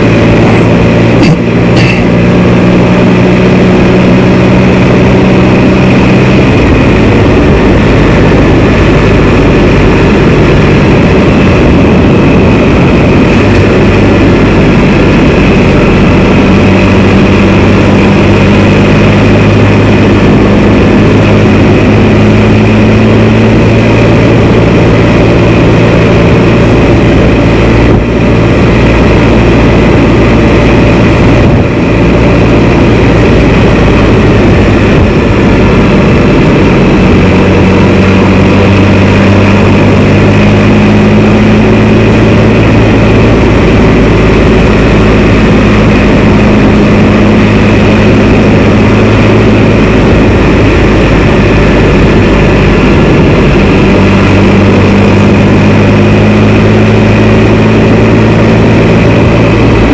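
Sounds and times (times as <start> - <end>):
loud rushing noise: 0.0 - 59.9
motorcycle engine running: 0.0 - 59.9.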